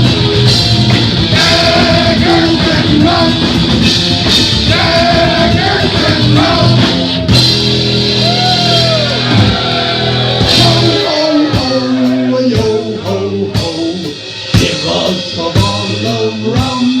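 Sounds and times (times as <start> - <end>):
drum kit hits: 0.0 - 17.0
electric guitar chords: 0.0 - 17.0.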